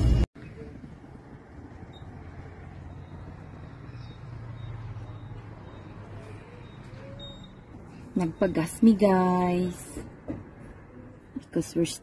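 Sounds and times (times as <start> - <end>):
vehicle engine low hum: 0.0 - 11.7.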